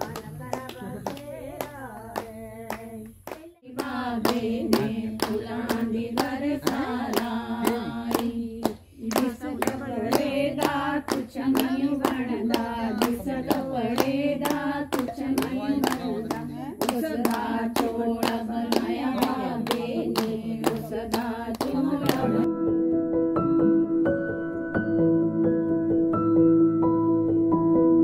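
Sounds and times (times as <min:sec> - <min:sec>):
hands clapping: 0:00.0 - 0:22.5
women singing together: 0:00.0 - 0:22.5.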